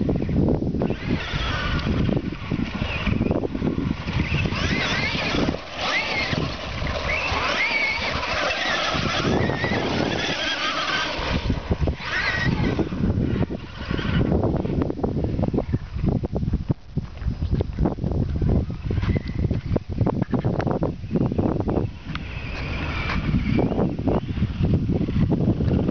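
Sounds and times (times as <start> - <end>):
electric motor whining: 0.0 - 25.9
tyres rumbling on ground: 0.0 - 25.9.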